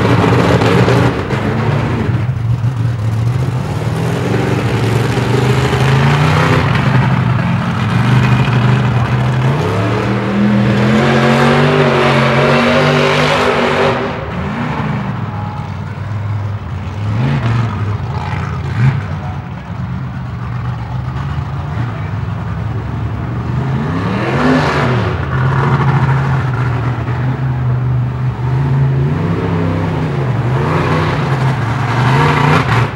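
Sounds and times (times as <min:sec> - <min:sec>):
truck engine revving: 0:00.0 - 0:32.9.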